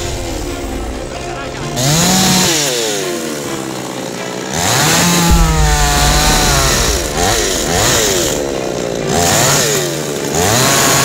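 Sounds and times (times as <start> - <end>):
chainsaw cutting tree trunk: 1.7 - 11.0.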